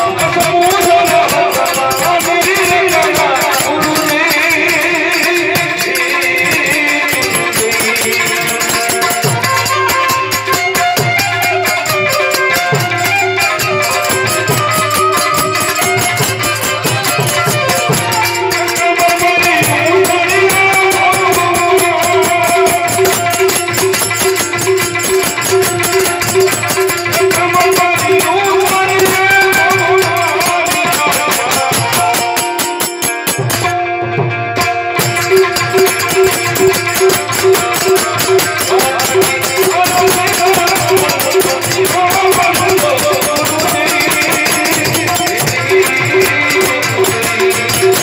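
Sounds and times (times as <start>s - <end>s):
small rattling percussion: 0.0s - 33.8s, 34.6s - 48.0s
harmonium: 0.0s - 48.0s
man singing into a microphone: 0.0s - 48.0s
tabla beat: 0.0s - 48.0s.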